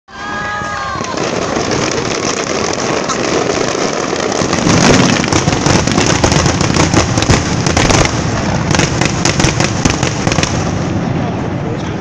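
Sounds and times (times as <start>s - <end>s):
fireworks crackling and popping: 0.1s - 12.0s.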